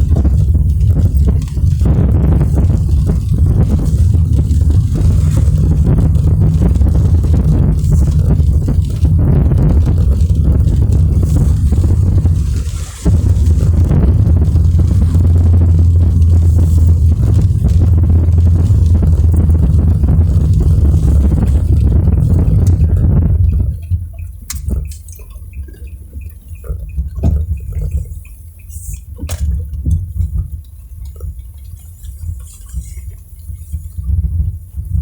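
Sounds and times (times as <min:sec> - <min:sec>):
car road and engine rumble: 0:00.0 - 0:35.0
raindrops ticking on car body: 0:00.0 - 0:35.0.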